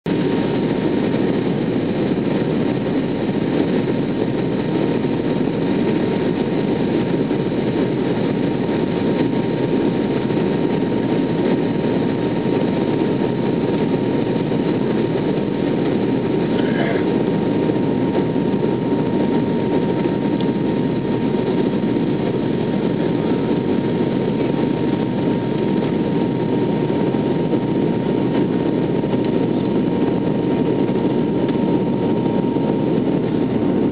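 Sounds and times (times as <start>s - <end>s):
airliner engine and airflow rush: 0.0s - 33.9s.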